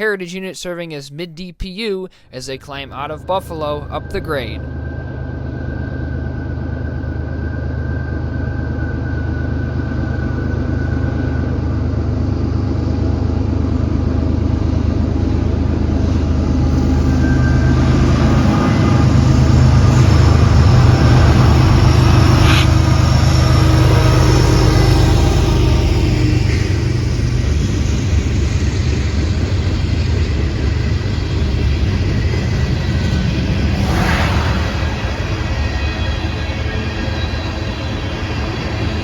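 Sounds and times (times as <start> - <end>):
diesel locomotive engine drone: 2.6 - 39.0.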